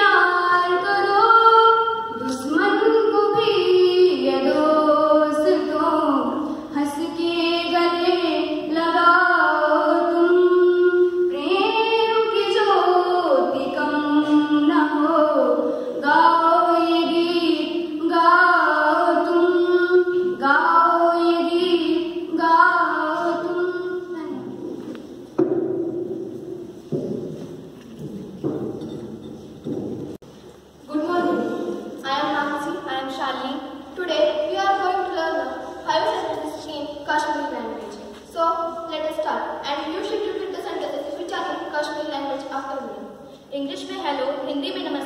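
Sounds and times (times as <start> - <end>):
girls singing unaccompanied: 0.0 - 25.3, 30.8 - 41.8.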